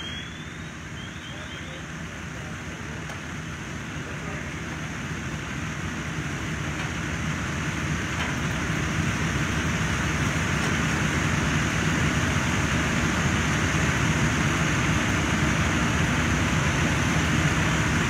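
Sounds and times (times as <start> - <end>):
fire engine pump rumbling: 0.0 - 18.0.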